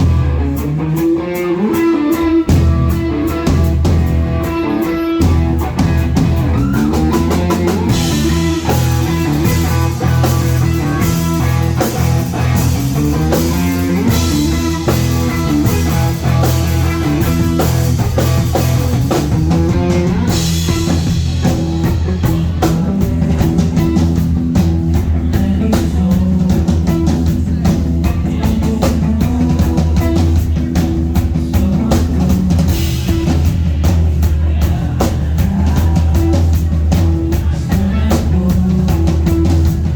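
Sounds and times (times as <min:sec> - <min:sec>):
drum kit pounding beat: 0:00.0 - 0:39.9
electric guitars: 0:00.0 - 0:39.9
rock band playing: 0:00.0 - 0:39.9.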